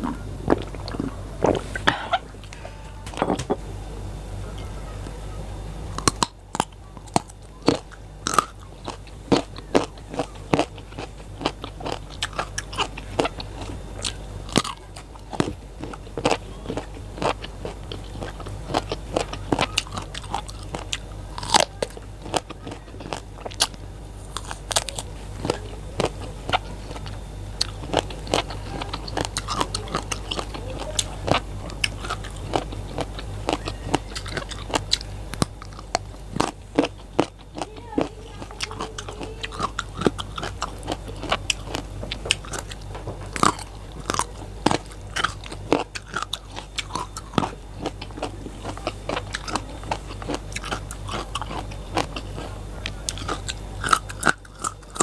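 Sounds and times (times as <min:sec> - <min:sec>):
chewing crunchy vegetables: 0:00.0 - 0:03.7, 0:04.4 - 0:55.0.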